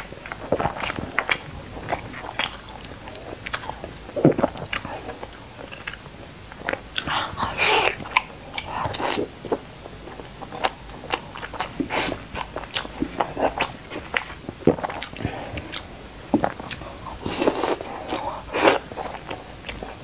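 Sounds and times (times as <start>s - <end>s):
chewing and biting meat: 0.0s - 20.0s.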